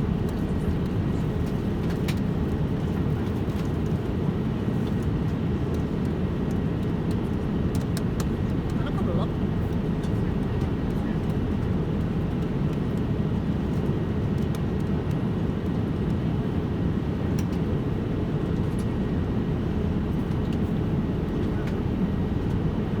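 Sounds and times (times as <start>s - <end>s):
airliner cabin drone: 0.0s - 23.0s.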